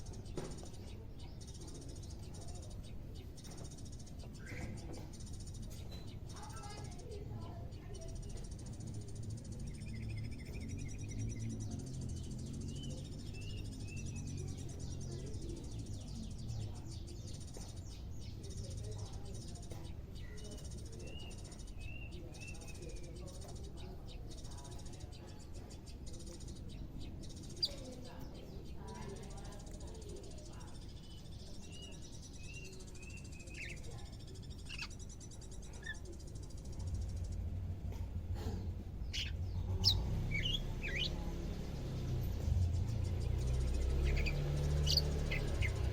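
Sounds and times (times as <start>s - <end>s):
bird chirping: 0.0s - 45.9s.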